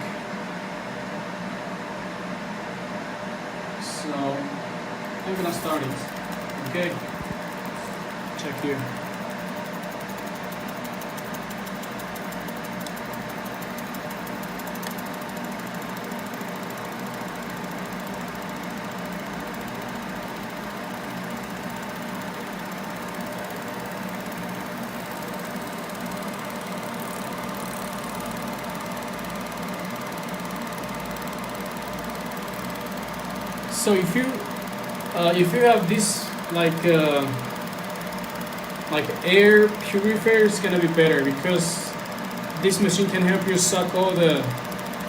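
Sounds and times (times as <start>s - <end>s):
steady machine hum: 0.0s - 45.0s
fast high-pitched ticking: 5.2s - 45.0s.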